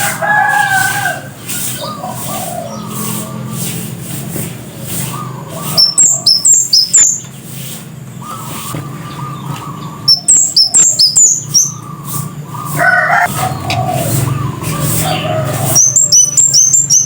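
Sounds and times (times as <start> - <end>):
bird calling in sharp high chirps: 0.0 - 3.9, 4.8 - 17.0.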